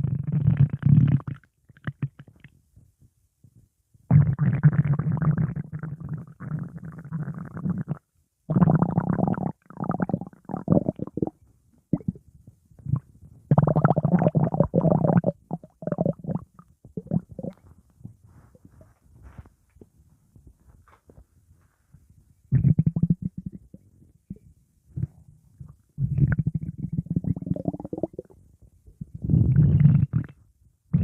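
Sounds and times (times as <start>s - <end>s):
stomach growling and gurgling: 0.0s - 2.6s, 4.1s - 12.2s, 12.8s - 18.9s, 22.5s - 31.0s.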